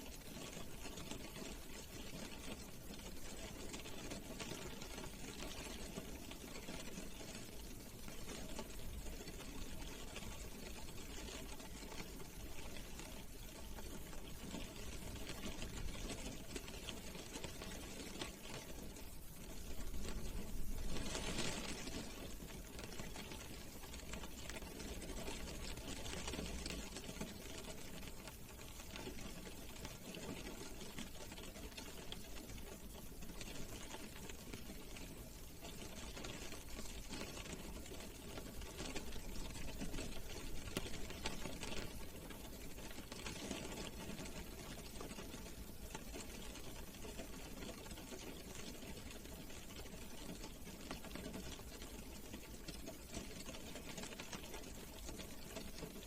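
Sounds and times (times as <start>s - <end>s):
rain drumming on car roof: 0.0s - 56.0s.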